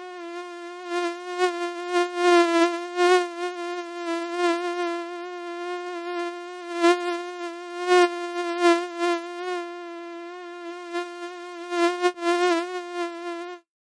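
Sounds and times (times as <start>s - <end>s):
mosquito buzzing: 0.0s - 13.7s.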